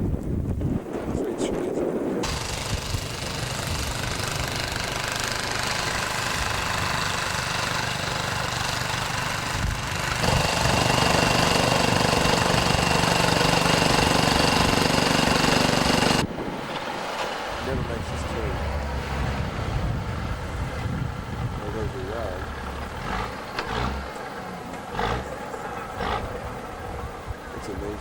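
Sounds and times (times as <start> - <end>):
wind hissing: 0.0 - 28.0
heavy engine running: 2.2 - 28.0.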